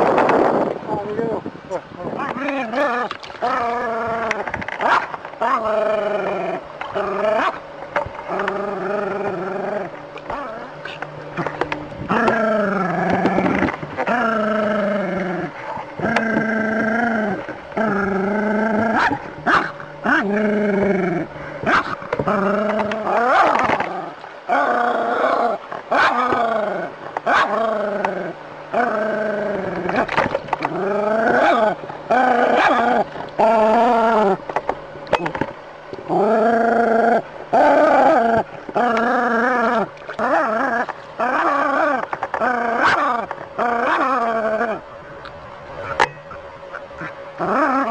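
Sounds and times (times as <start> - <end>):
dog barking and growling: 2.2 - 7.6, 8.3 - 34.4, 36.1 - 44.8, 45.8 - 47.9.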